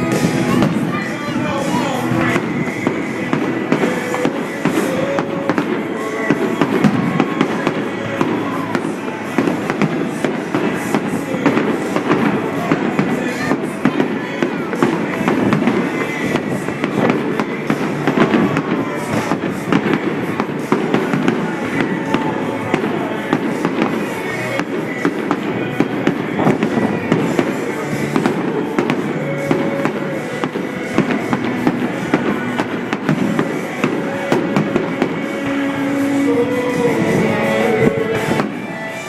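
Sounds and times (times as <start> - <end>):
fireworks popping and crackling: 0.0 - 39.0
music playing: 0.0 - 39.0.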